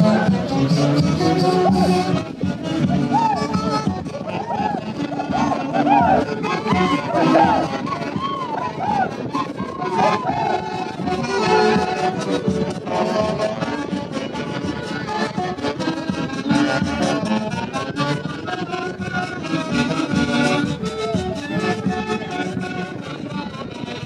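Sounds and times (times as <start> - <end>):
saxophones and strings dance tune: 0.0 - 24.0.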